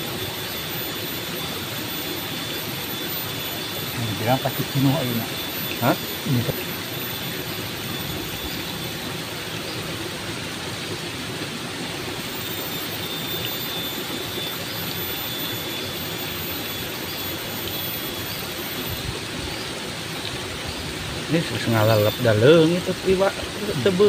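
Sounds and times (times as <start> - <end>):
faint high steady tone: 0.0 - 9.9, 12.1 - 19.8, 20.6 - 24.0
river water rushing: 0.0 - 24.0.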